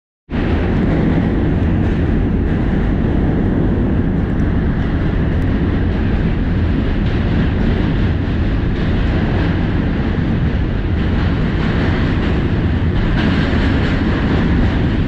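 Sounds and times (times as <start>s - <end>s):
subway train rumbling on track: 0.3s - 15.0s.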